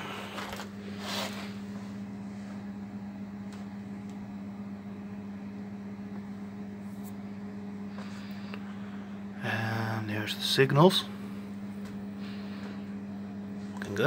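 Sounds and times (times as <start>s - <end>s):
electronic equipment hum: 0.0s - 14.0s.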